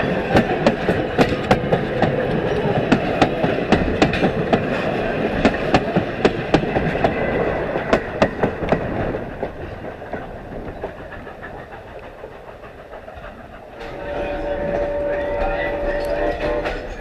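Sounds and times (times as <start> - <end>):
train wheels over rail joints: 0.0 - 17.0.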